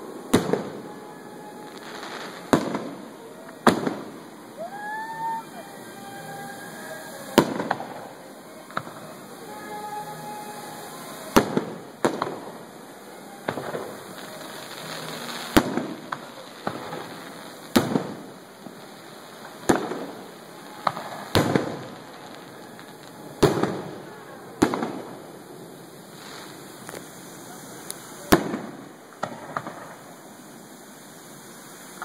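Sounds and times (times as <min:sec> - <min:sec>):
fireworks bursting with echo: 0:00.0 - 0:32.0.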